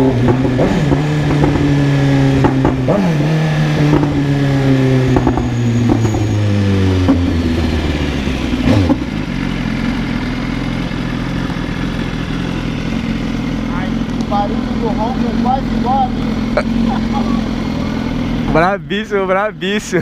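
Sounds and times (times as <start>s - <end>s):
motorcycle engine winding down: 0.0s - 19.3s.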